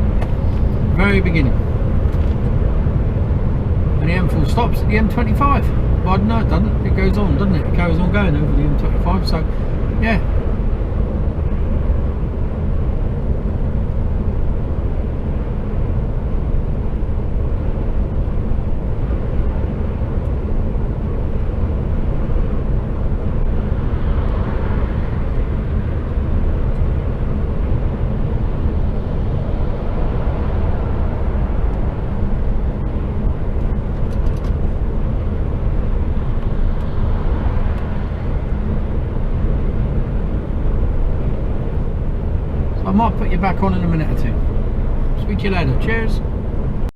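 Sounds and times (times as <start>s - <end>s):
diesel engine drone: 0.0s - 46.9s
tyre and road noise: 0.0s - 46.9s.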